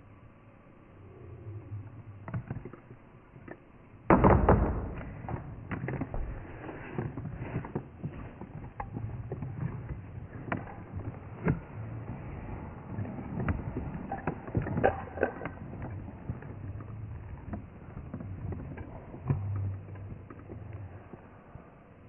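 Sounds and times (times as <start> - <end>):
low rumbling rush: 0.0 - 22.0.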